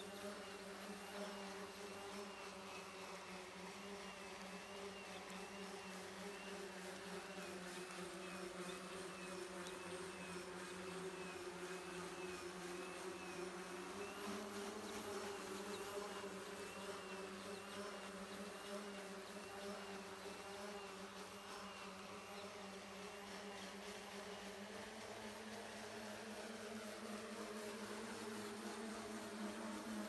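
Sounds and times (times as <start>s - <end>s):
electric aircraft propellers buzzing: 0.0s - 30.0s.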